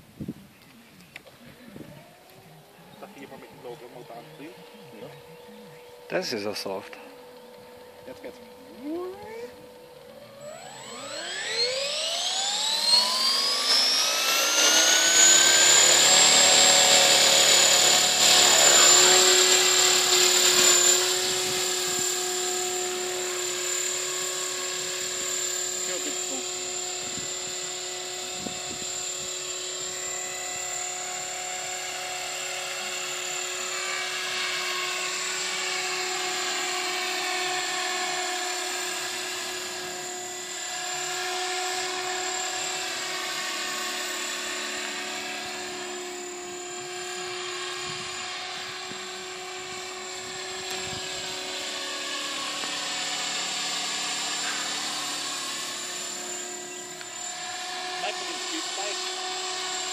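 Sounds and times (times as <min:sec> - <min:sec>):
rc helicopter motor whine: 0:00.0 - 0:59.9.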